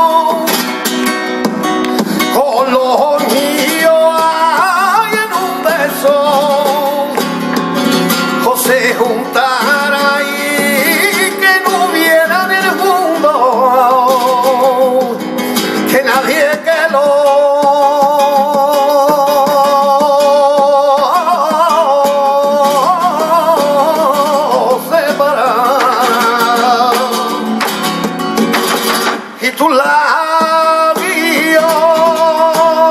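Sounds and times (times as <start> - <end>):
man singing: 0.0 - 1.0, 1.9 - 7.3, 8.1 - 32.9
strummed flamenco guitar: 0.0 - 32.9.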